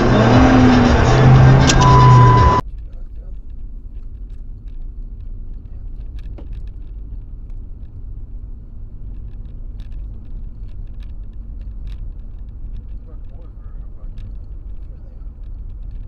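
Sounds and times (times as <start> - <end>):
car rumble on wet road: 0.0 - 2.6, 4.7 - 16.0.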